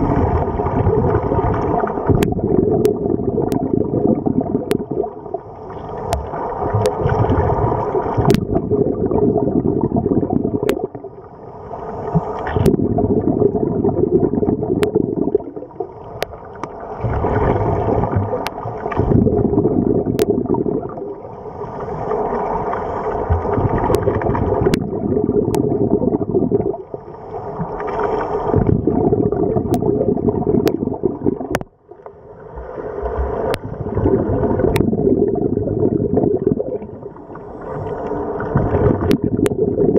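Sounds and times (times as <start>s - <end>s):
regulator bubbles bursting: 0.0s - 11.2s, 12.1s - 21.3s, 23.2s - 27.0s, 28.4s - 32.0s, 33.0s - 37.4s, 38.1s - 39.9s
scuba breathing underwater: 0.0s - 39.9s.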